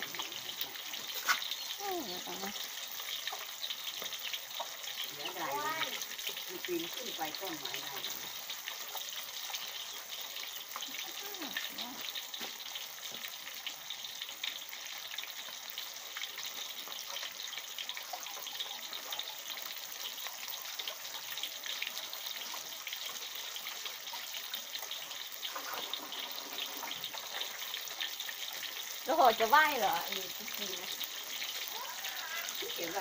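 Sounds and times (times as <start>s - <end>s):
fish deep-frying in hot oil: 0.0s - 33.0s.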